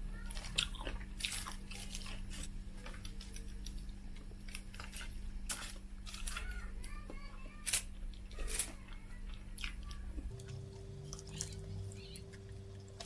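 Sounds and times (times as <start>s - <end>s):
low steady hum: 0.0s - 13.0s
chewing crunches: 0.2s - 7.0s, 7.6s - 13.0s.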